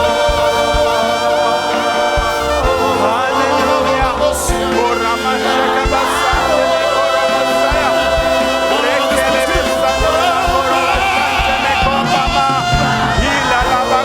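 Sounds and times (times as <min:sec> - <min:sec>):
choir and band singing gospel: 0:00.0 - 0:14.0
steady drum beat: 0:00.0 - 0:14.0.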